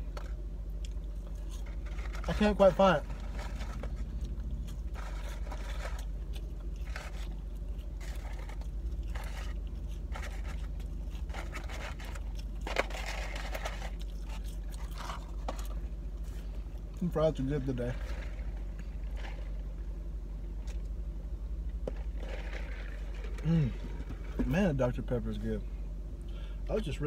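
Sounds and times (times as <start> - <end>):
chewing and crunching fries: 0.0 - 21.0, 21.6 - 25.3
low steady hum: 0.0 - 27.0.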